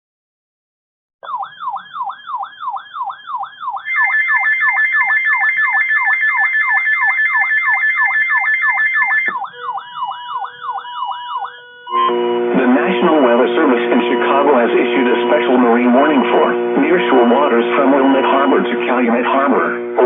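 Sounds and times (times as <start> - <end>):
high two-note alarm tone: 1.2 - 20.0
weather radio alarm siren tone: 1.2 - 20.0.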